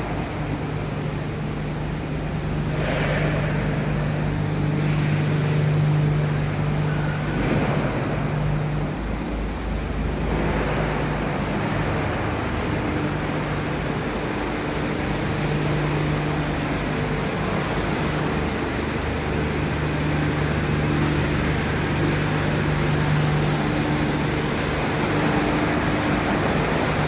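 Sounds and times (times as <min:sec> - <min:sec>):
machinery low hum: 0:00.0 - 0:27.0.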